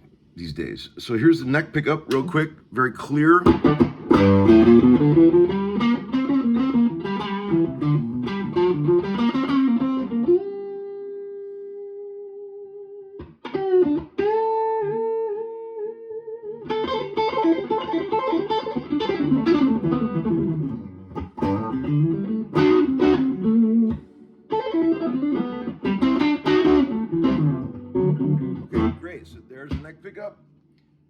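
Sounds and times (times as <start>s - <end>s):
electric guitar playing: 2.0s - 29.9s.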